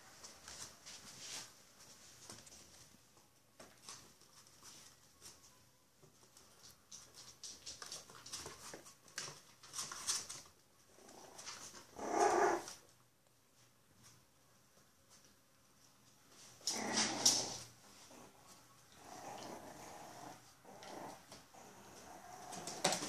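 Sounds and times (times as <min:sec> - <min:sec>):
puppies scuffling on hard floor: 0:00.0 - 0:12.9, 0:13.5 - 0:23.0.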